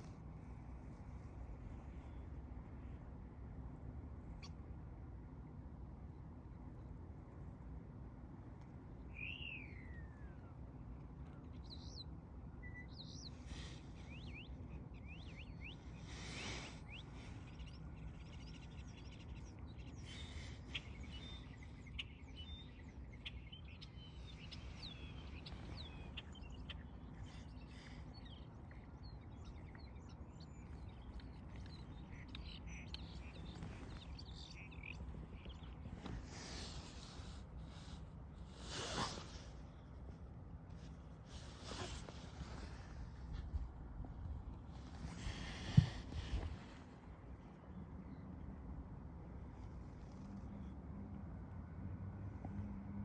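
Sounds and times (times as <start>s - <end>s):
low background noise: 0.0s - 53.0s
songbirds chirping: 0.0s - 53.0s.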